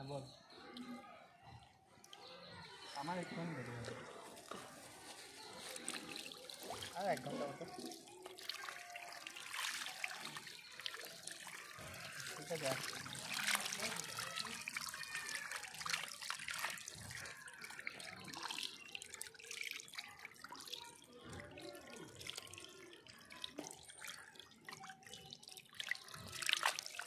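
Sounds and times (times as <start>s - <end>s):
small water splashes and slurps: 0.7s - 27.0s.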